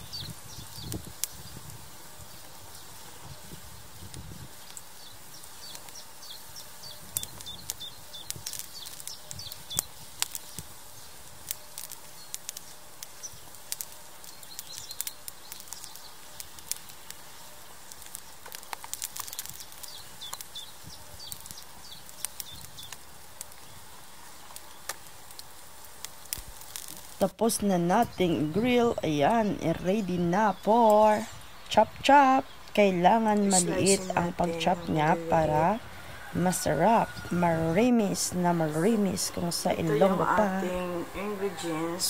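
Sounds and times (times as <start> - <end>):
charcoal grill crackling: 0.0 - 42.0
coals popping: 0.0 - 42.0.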